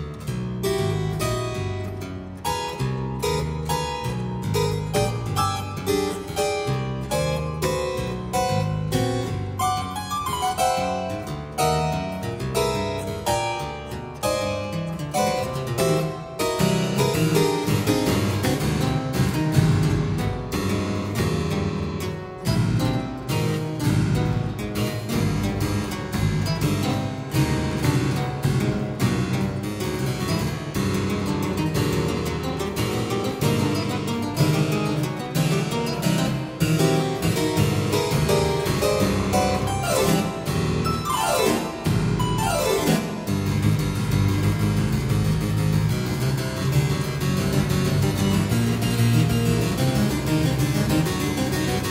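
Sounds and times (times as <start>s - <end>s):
harpsichord playing fast passage: 0.0s - 51.9s.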